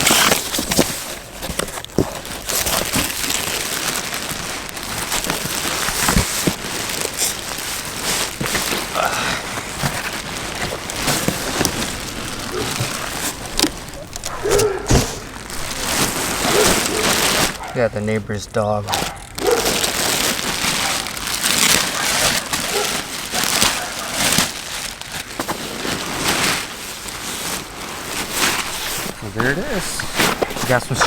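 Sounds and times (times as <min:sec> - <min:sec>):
packaging and fabric rustling: 0:00.0 - 0:31.0.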